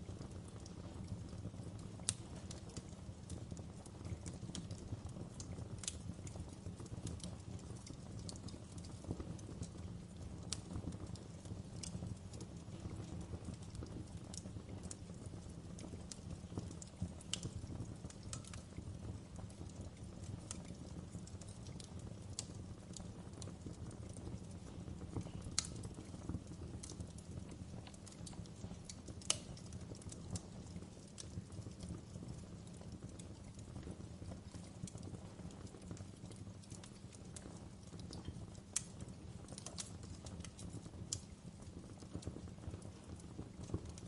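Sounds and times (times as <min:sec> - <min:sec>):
fire pops and snaps: 0:00.0 - 0:44.0
wood fire crackling: 0:00.0 - 0:44.0.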